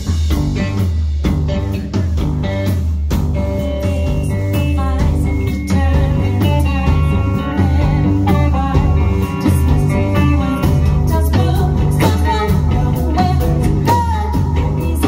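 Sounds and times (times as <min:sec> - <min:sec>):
electric guitar: 0:00.0 - 0:15.0
live rock band: 0:00.0 - 0:15.0.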